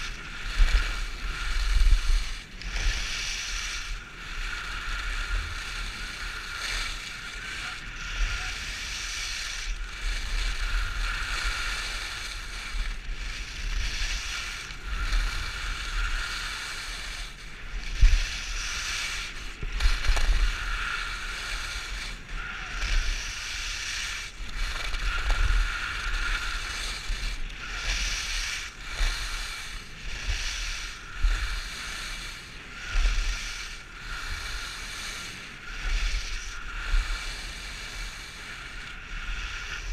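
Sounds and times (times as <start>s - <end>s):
skis scraping on snow: 0.0s - 39.9s.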